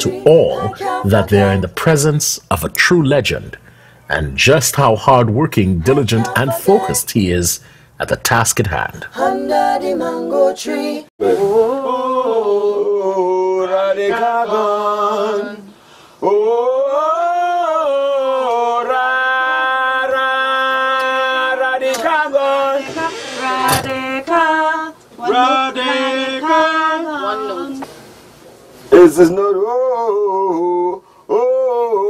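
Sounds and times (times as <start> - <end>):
unaccompanied singing voices: 0.0 - 2.4, 4.1 - 28.0, 28.9 - 32.0.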